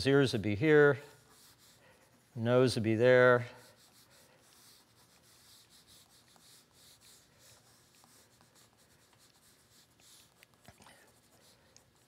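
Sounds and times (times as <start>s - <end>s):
pencil scratching on paper: 0.6s - 12.0s.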